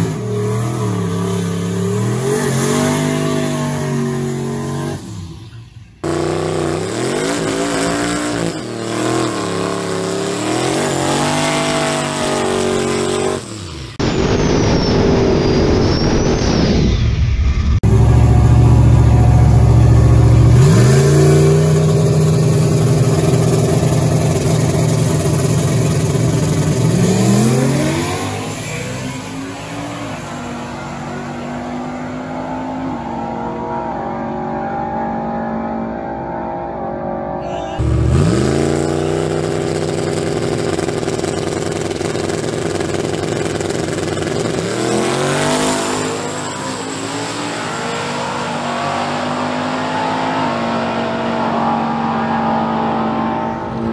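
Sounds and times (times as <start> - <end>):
truck engine revving: 0.0 - 16.5, 17.6 - 35.8, 37.4 - 53.9.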